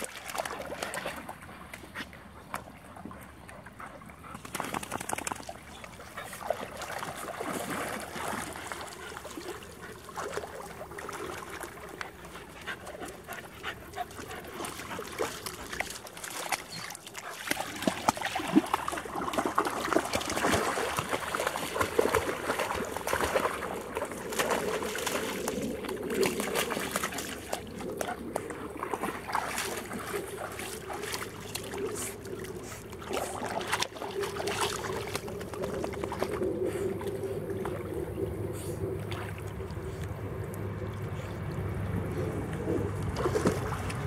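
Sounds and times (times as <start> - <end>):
puppies splashing in water: 0.0 - 44.0.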